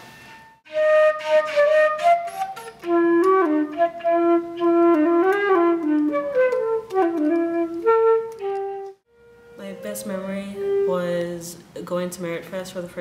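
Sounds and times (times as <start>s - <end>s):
flute playing a solo melody: 0.6s - 11.4s.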